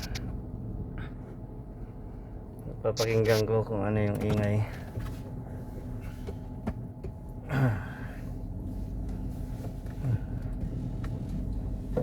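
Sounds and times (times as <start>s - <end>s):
car driveline hum: 0.0s - 12.0s.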